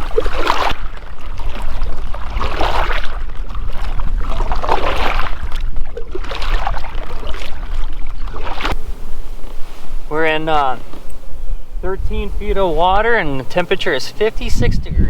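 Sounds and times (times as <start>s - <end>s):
paddle swishing through water: 0.0s - 14.7s
wind rumble on microphone: 0.0s - 15.0s.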